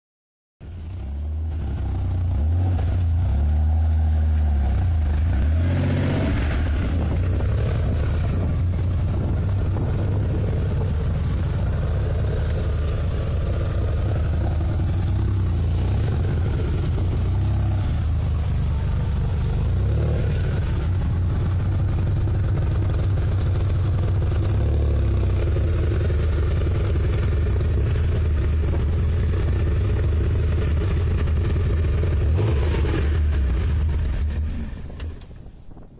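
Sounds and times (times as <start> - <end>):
car engine running low: 0.6 - 35.9.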